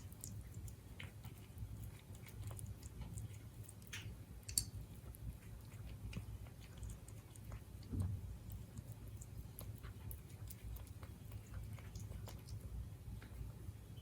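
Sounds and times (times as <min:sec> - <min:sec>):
small irregular clicks: 0:00.0 - 0:13.4
cat chewing food: 0:00.0 - 0:13.8.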